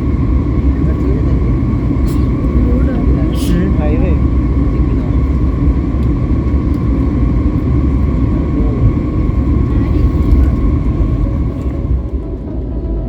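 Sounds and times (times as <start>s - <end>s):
airplane cabin rumble: 0.0s - 13.0s
jet engine whine: 0.0s - 13.0s.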